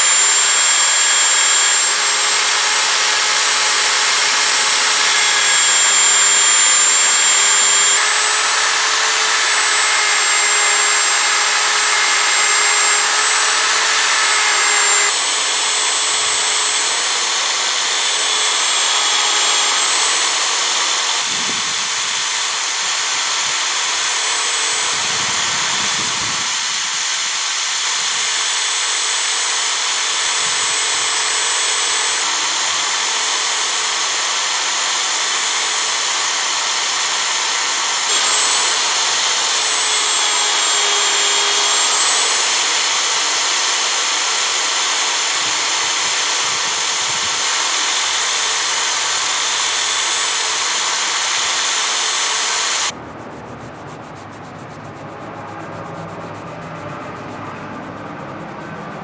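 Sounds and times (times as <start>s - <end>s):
power tool high whine: 0.0s - 53.0s.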